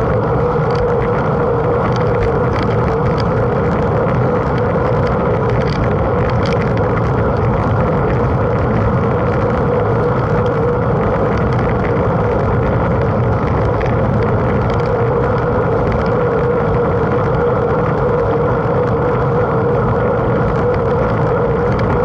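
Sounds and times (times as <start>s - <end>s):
steady hum: 0.0s - 22.0s
wind and tyre noise: 0.0s - 22.0s.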